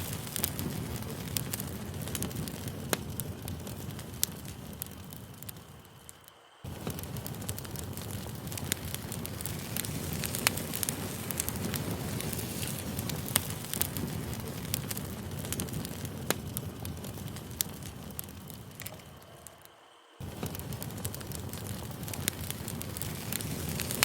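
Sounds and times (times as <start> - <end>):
campfire rumbling: 0.0 - 24.0
fire crackling pops: 0.0 - 24.0.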